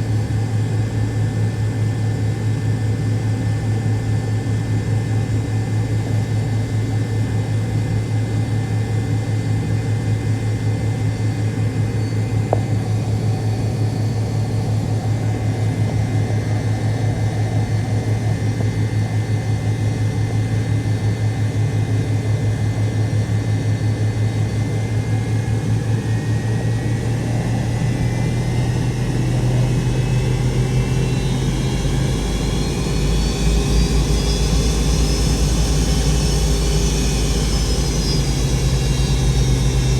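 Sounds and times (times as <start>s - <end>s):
jet engine hum in cabin: 0.0s - 39.9s
engine whine rising in pitch: 4.6s - 39.9s.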